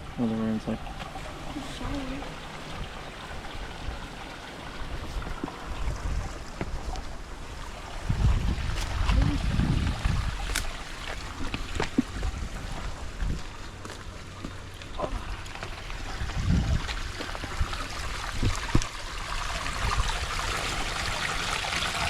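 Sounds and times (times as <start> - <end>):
water trickling in a stream: 0.0 - 22.0
wind rumbling on microphone: 1.2 - 13.9, 14.9 - 22.0.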